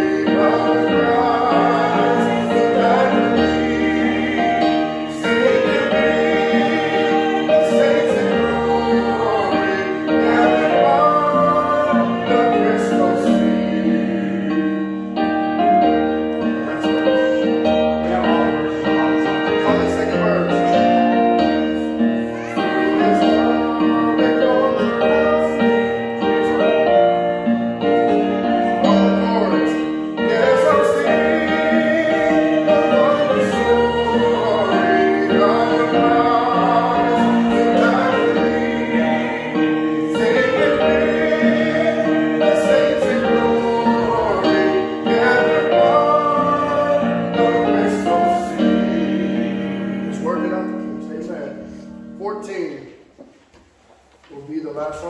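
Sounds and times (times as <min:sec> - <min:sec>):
person singing a hymn: 0:00.0 - 0:52.8
keyboard chords: 0:00.0 - 0:53.2.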